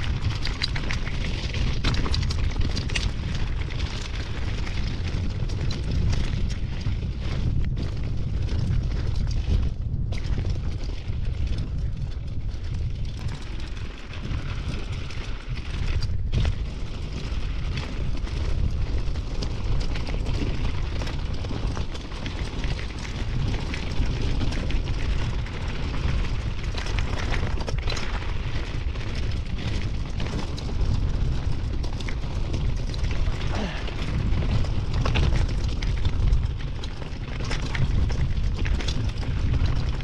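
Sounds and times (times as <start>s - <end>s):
bike rattling: 0.0s - 40.0s
bike tyres crunching on gravel: 0.0s - 40.0s
wind buffeting microphone: 0.0s - 40.0s.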